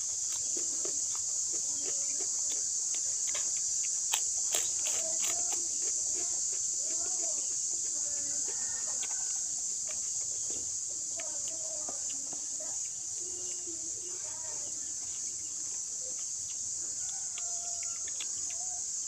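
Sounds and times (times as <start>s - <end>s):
chip crunching: 0.0s - 13.6s, 14.9s - 18.9s
insects droning: 0.0s - 19.0s.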